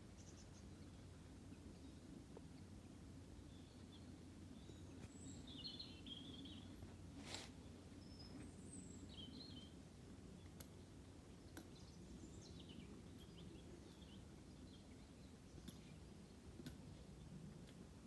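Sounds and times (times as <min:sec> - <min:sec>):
small birds chirping: 0:00.1 - 0:17.9.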